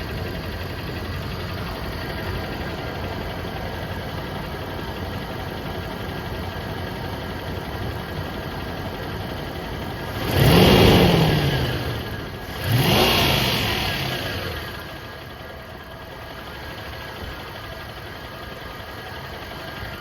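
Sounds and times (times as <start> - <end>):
car engine idling and revving: 0.0 - 20.0
engine ticking: 0.0 - 20.0.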